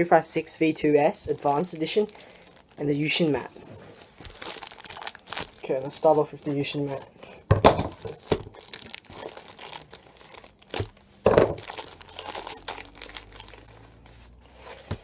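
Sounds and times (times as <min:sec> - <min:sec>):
plastic wrapping crinkling: 0:01.2 - 0:15.0.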